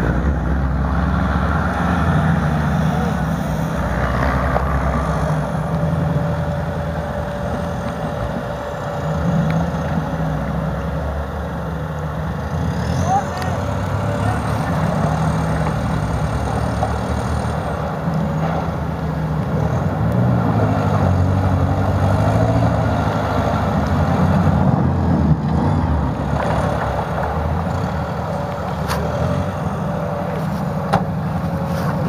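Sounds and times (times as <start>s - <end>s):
buggy engine revving: 0.0s - 32.0s.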